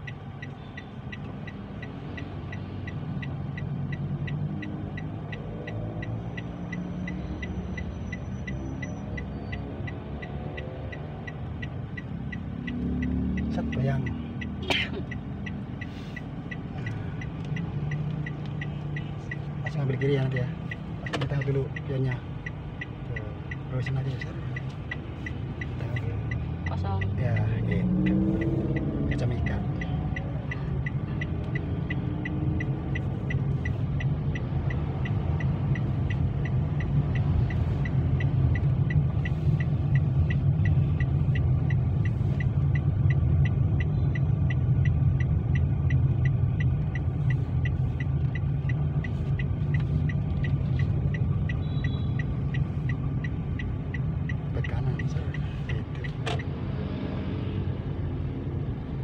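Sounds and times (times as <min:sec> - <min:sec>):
engine and road rumble: 0:00.0 - 0:59.0
turn signal ticking: 0:00.0 - 0:59.0.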